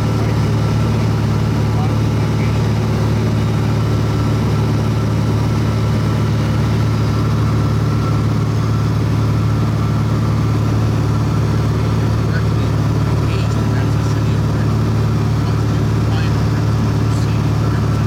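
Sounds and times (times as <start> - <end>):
aircraft propeller engine droning: 0.0 - 18.0.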